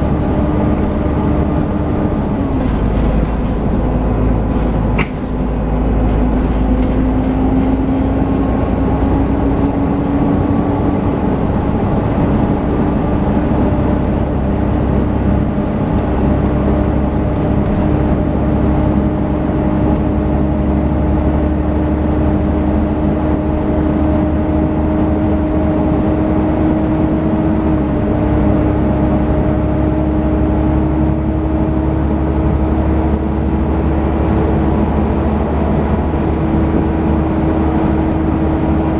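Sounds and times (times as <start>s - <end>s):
bus cooling fan whine: 0.0s - 38.9s
low engine rumble: 0.0s - 38.9s.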